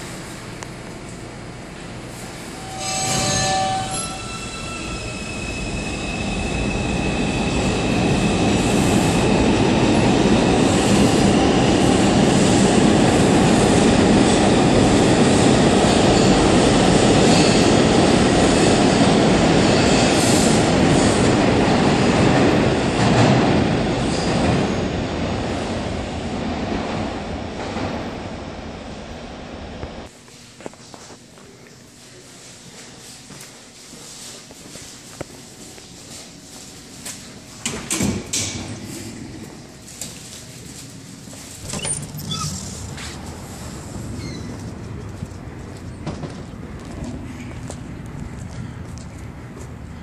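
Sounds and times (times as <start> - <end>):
subway train rumbling: 0.0 - 50.0.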